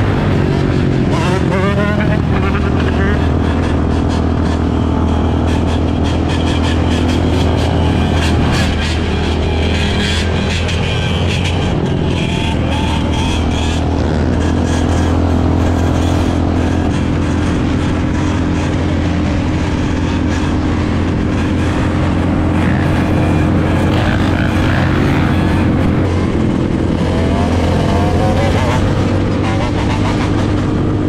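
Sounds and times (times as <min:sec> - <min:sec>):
engines revving: 0:00.0 - 0:31.0
motorbike engine running: 0:00.0 - 0:31.0.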